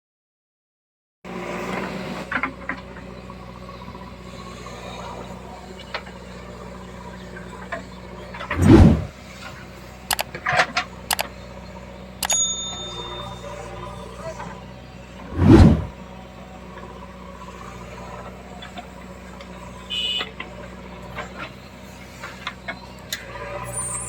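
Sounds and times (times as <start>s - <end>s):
diesel engine running: 1.3s - 24.0s.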